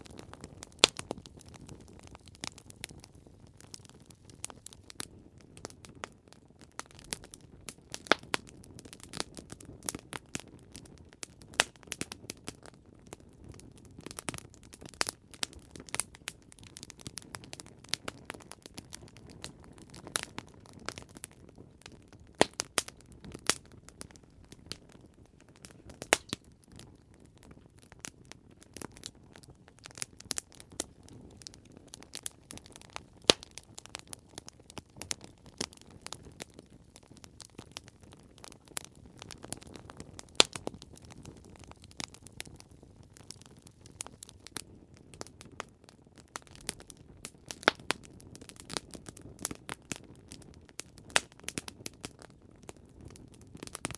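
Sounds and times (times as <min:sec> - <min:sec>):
burning wood popping and snapping: 0:00.0 - 0:53.9
low rumble of flame: 0:00.0 - 0:53.9.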